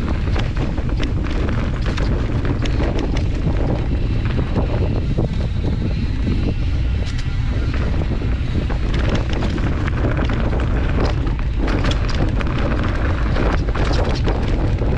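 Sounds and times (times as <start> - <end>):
bike tyres and frame clattering: 0.0 - 14.9
wind buffeting microphone: 0.0 - 14.9.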